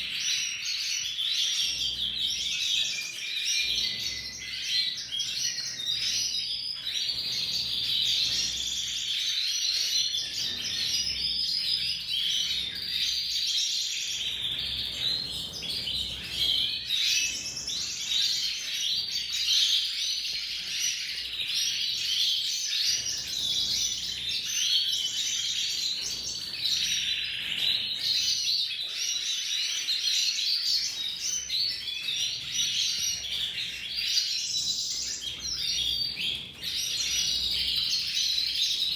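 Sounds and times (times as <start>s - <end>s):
canary warbling song: 0.0s - 38.9s.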